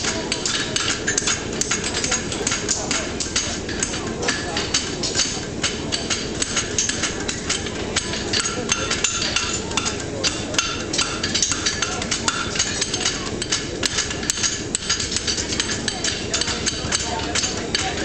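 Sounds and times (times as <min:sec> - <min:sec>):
hammers striking horseshoes on anvils: 0:00.0 - 0:18.0.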